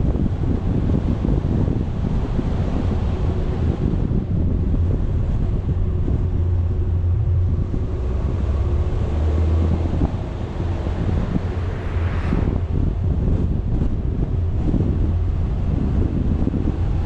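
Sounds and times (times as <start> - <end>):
faint vehicle hum: 0.0 - 17.0
wind buffeting microphone: 0.0 - 17.0.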